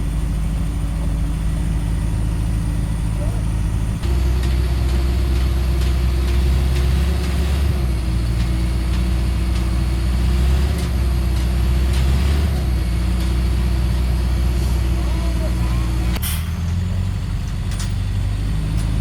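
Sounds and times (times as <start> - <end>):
truck engine humming: 0.0 - 19.0.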